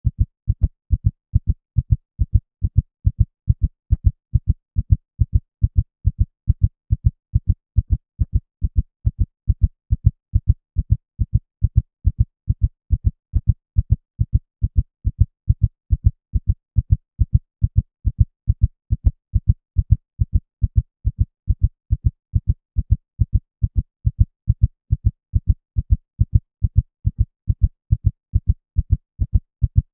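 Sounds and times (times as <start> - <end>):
heartbeat thumps: 0.0 - 29.9.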